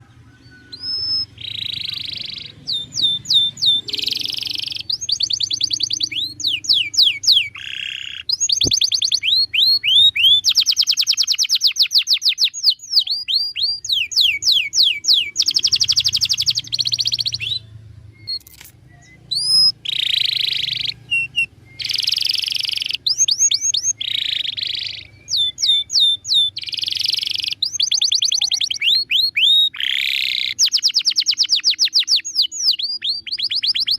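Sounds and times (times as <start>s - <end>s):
canary singing: 0.0s - 33.9s.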